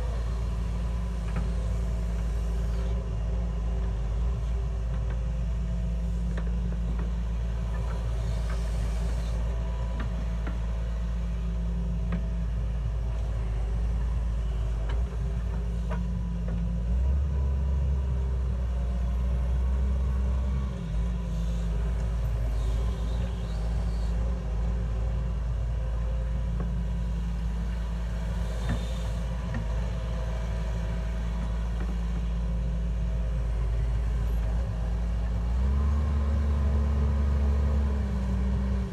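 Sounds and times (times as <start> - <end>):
heavy machine engine droning: 0.0 - 38.9.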